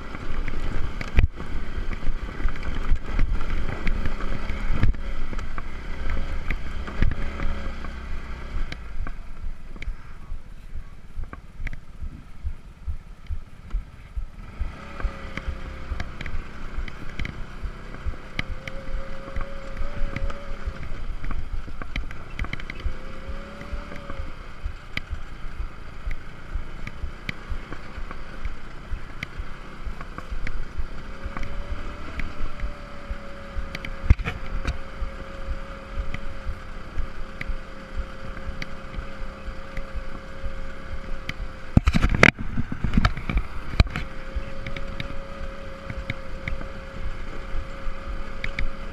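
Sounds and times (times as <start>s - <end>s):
rumbling and knocking from bumpy ground: 0.0s - 48.9s
scooter motor whine: 0.0s - 48.9s
wind on microphone: 0.0s - 48.9s.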